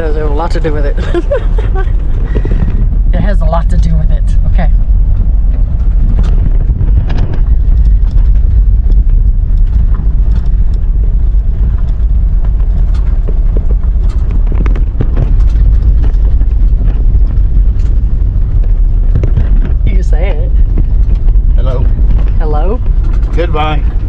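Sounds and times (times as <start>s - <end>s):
knocks and rattles: 0.0s - 24.0s
truck engine low rumble: 0.0s - 24.0s.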